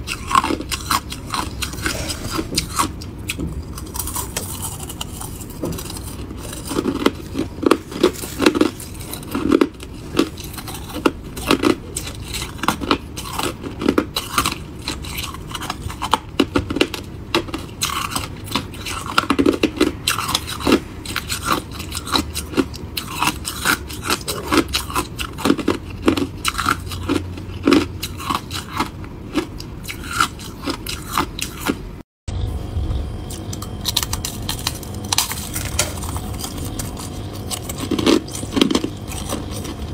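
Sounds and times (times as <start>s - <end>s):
person chewing crushed ice: 0.0s - 32.0s, 33.0s - 39.9s.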